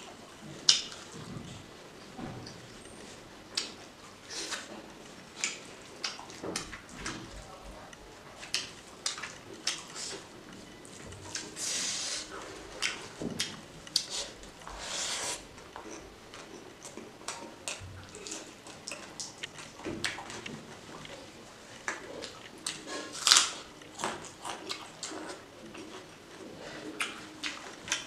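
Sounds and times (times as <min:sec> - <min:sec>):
wet chewing and smacking: 0:00.0 - 0:01.7, 0:02.4 - 0:28.0.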